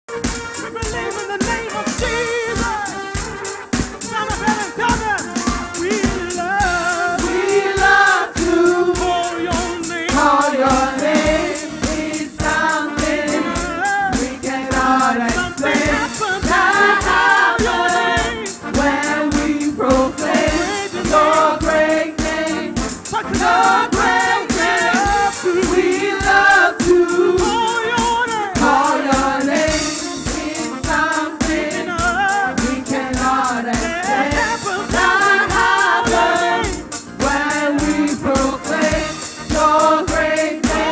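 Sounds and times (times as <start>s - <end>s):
band with steady beat: 0.1s - 40.9s
choir singing: 0.6s - 40.9s.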